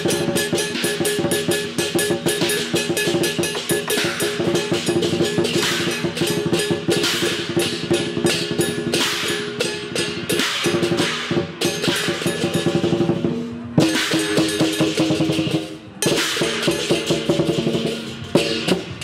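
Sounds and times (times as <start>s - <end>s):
cymbals crashing: 0.0s - 19.0s
large drum beating rapidly: 0.0s - 19.0s.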